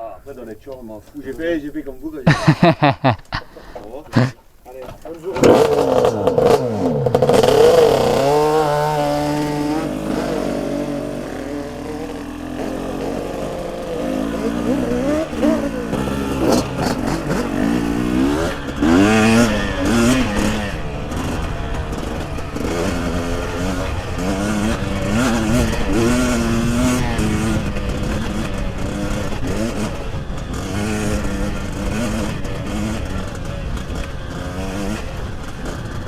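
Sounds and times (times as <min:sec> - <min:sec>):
two-stroke motorcycle engine revving: 0:00.6 - 0:36.0.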